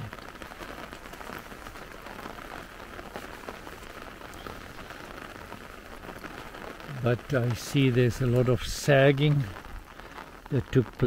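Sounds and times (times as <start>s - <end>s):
rain on umbrella and pond: 0.0s - 11.0s.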